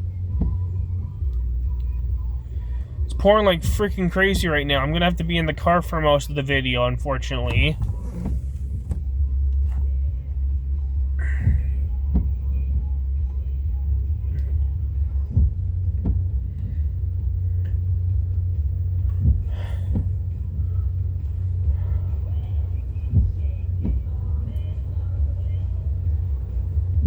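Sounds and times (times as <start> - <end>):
freight train rumble: 0.0 - 27.0.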